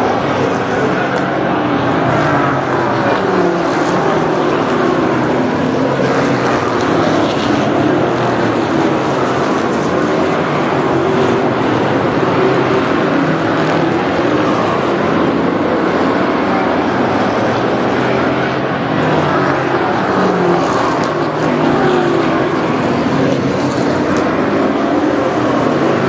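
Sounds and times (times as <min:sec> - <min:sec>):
racing car engines: 0:00.0 - 0:26.0.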